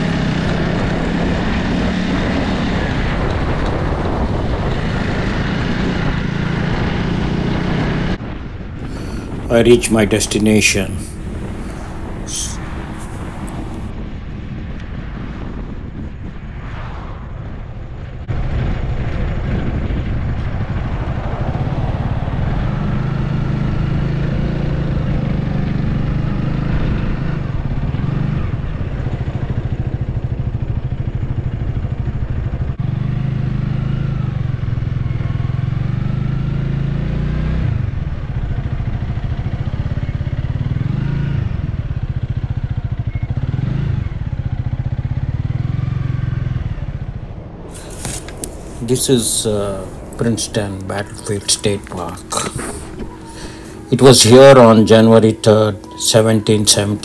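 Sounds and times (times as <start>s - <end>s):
motorcycle engine revving: 0.0s - 8.2s, 11.0s - 13.9s, 20.8s - 57.0s.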